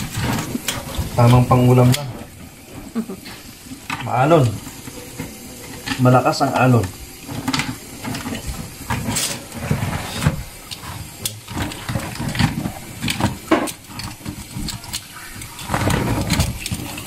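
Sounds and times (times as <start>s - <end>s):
brush scraping crab shells: 0.0s - 17.0s
steady hiss: 0.0s - 17.0s.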